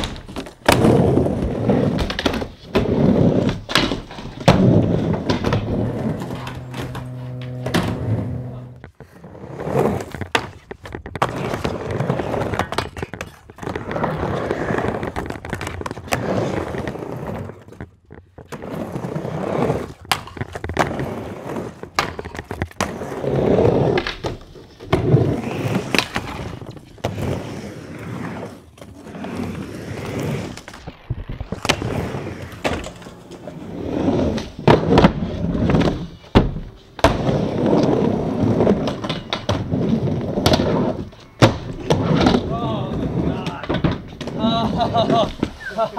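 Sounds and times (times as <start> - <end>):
skateboard clacks and knocks: 0.0 - 45.9
skateboard wheels rolling on wood: 0.0 - 45.9.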